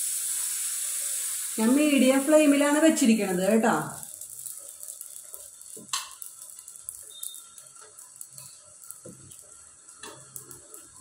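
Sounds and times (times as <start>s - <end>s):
batter sizzling on hot griddle: 0.0s - 11.0s.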